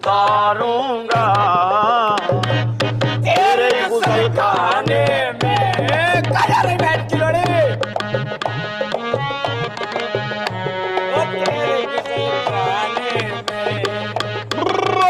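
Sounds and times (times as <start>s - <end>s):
upbeat song with hand drum: 0.0s - 15.0s.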